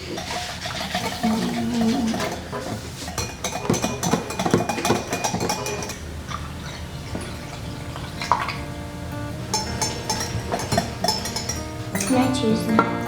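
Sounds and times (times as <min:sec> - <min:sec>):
utensil clinking against bowl: 0:00.0 - 0:13.0.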